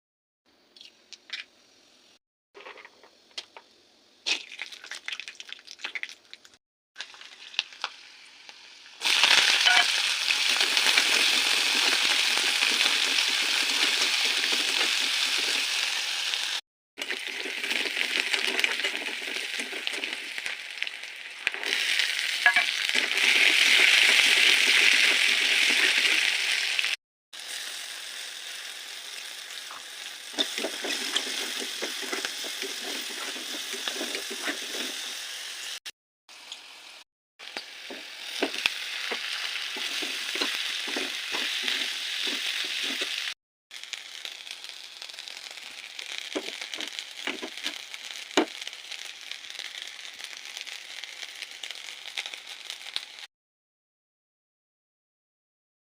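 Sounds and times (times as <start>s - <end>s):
food sizzling in hot oil: 4.0s - 53.3s.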